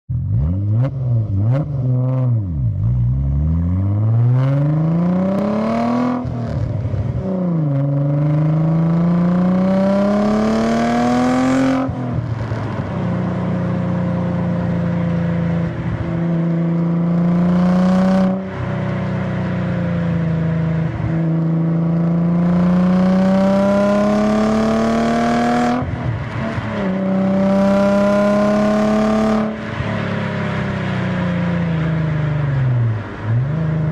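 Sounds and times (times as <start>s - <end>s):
car engine accelerating: 0.1s - 33.9s.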